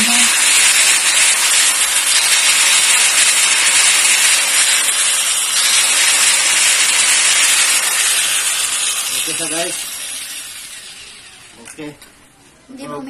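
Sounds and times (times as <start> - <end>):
angle grinder running unloaded: 0.0 - 12.1.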